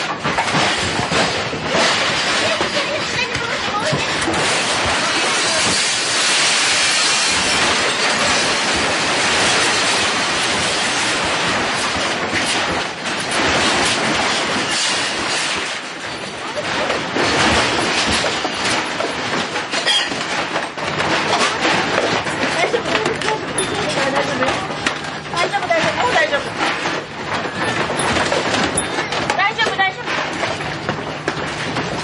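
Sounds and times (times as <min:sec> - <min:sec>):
objects rattling and clattering: 0:00.0 - 0:32.0.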